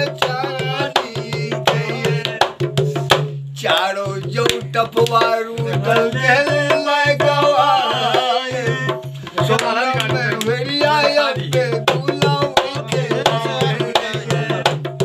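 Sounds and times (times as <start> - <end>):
man singing folk ballad: 0.0 - 2.4, 3.6 - 14.7
barrel drum beating steady rhythm: 0.0 - 15.0.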